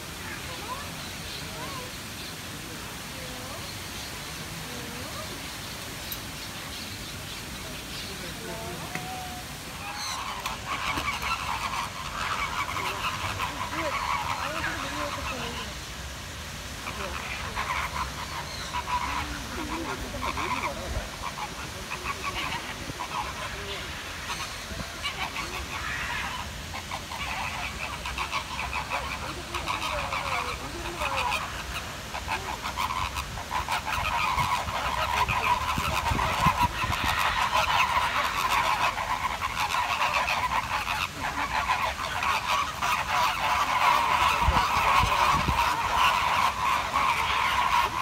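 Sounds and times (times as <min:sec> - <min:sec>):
flamingos honking and gabbling: 0:00.0 - 0:48.0.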